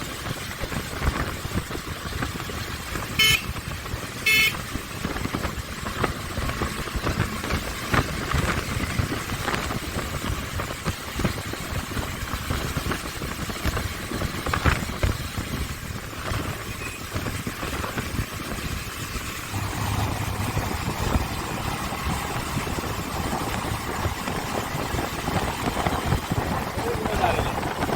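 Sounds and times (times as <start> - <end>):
motorcycle engine running: 0.0 - 27.9
road and wind noise: 0.0 - 27.9.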